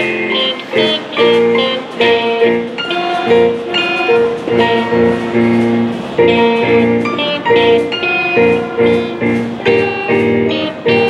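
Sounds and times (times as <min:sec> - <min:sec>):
band playing held chords: 0:00.0 - 0:11.0.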